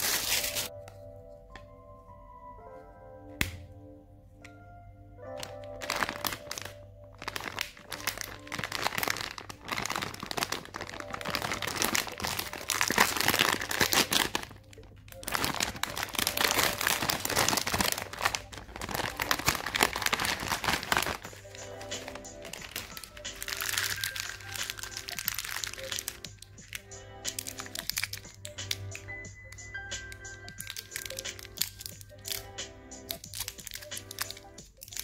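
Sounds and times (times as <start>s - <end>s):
plastic candy bag crinkling: 0.0s - 0.7s, 5.3s - 35.0s
background music: 0.0s - 35.0s.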